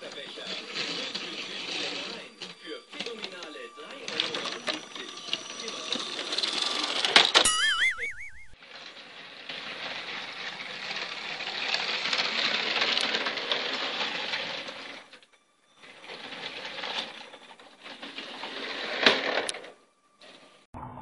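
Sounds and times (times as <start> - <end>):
toy train motor whirring and rattling: 0.0 - 7.4, 8.6 - 20.7.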